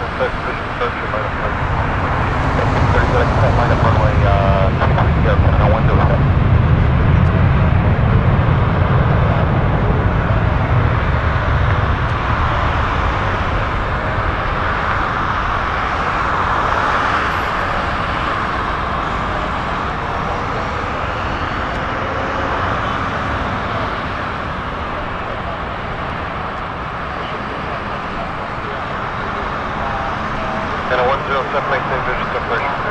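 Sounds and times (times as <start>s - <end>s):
jet engines at takeoff power: 0.0s - 32.9s.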